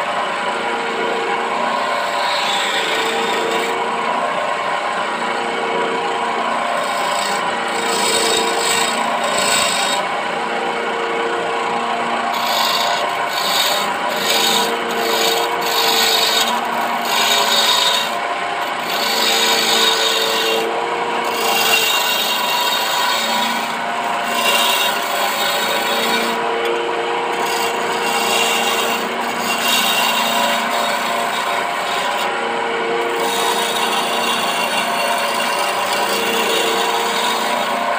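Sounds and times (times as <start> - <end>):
chisel scraping spinning wood: 0.0 - 37.9
electric lathe humming: 0.0 - 37.9.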